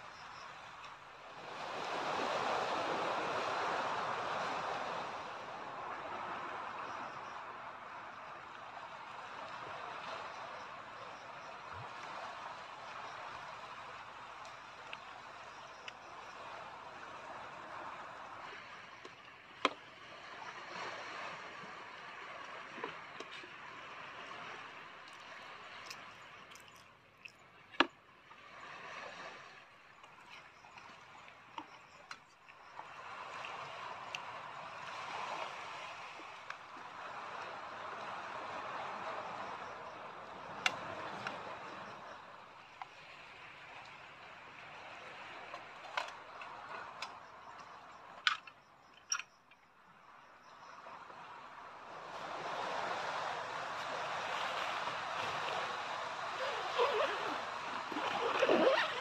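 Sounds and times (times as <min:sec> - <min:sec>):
sea waves washing on shore: 0:00.0 - 0:48.5, 0:50.8 - 0:59.0.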